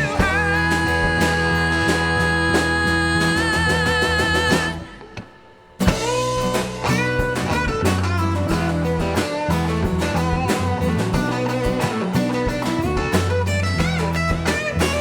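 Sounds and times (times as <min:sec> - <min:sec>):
bass notes: 0:00.0 - 0:05.2, 0:05.8 - 0:15.0
drum kit: 0:00.0 - 0:15.0
guitar lines: 0:00.0 - 0:15.0.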